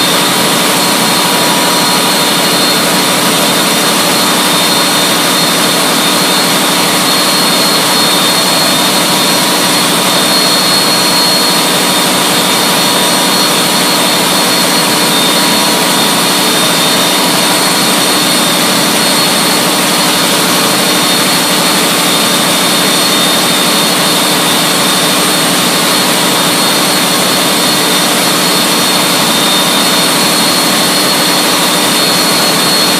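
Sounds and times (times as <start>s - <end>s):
large engine exhaust roar: 0.0s - 32.9s
steady high whine: 0.0s - 32.9s.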